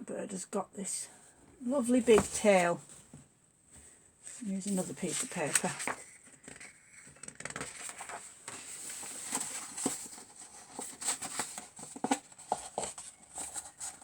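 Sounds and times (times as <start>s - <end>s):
paper rustling: 1.8s - 3.2s, 3.8s - 14.0s.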